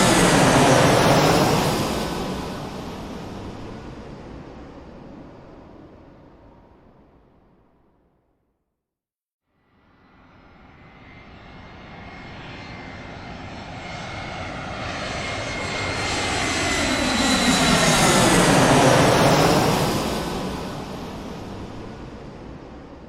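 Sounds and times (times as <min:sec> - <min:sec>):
airplane flying over: 0:00.0 - 0:07.3, 0:09.8 - 0:23.0.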